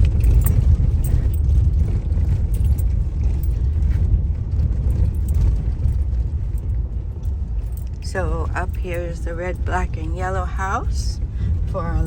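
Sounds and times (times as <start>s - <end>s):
car engine and tyre rumble: 0.0s - 12.0s
light rattles: 0.0s - 12.0s.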